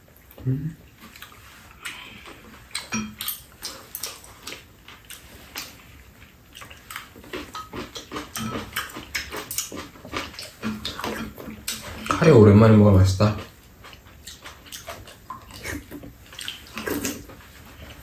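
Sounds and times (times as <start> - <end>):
chewing and mouth noises: 0.0 - 12.5, 13.2 - 18.0.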